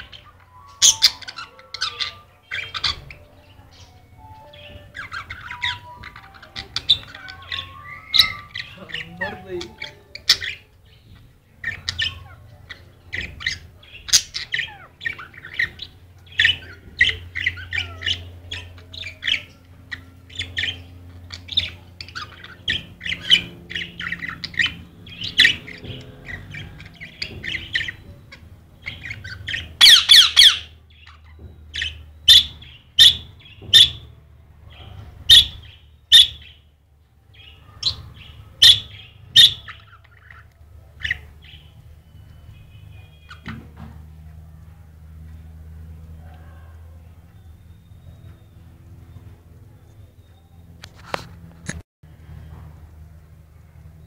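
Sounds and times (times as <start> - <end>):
parrots chattering and squawking: 0.0 - 36.6, 37.3 - 44.5.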